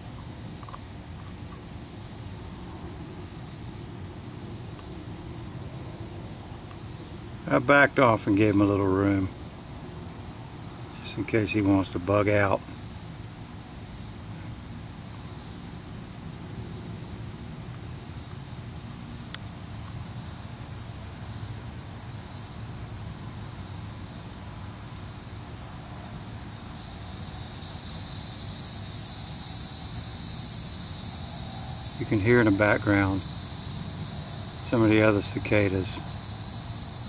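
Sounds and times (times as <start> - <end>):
cicadas buzzing: 0.0 - 37.0.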